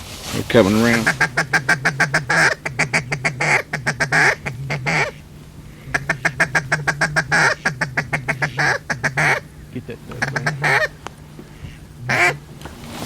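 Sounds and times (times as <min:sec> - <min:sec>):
duck call quacking: 0:00.7 - 0:12.4.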